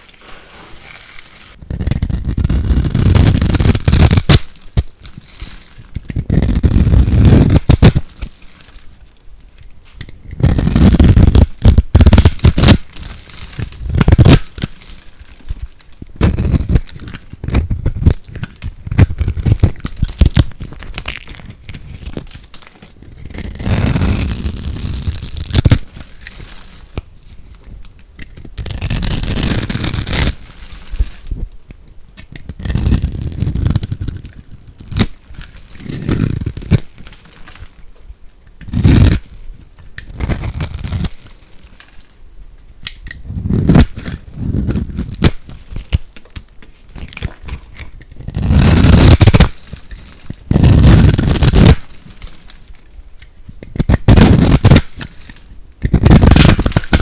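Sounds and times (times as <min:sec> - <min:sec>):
soap being scraped and crunched: 0:00.0 - 0:42.2, 0:42.8 - 0:57.0.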